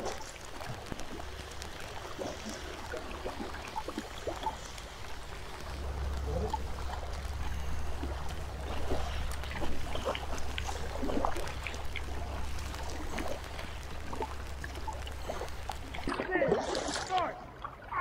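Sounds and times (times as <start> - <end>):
low rumble: 0.0 - 18.0
water splashing off paddles: 0.0 - 18.0.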